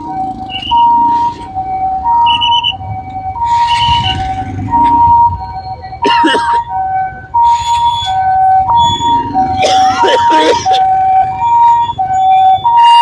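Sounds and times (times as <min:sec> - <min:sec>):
two-tone ambulance siren: 0:00.0 - 0:13.0.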